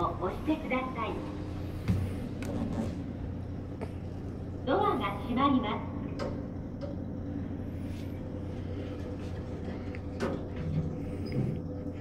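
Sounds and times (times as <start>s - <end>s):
elevator car humming: 0.0s - 12.0s.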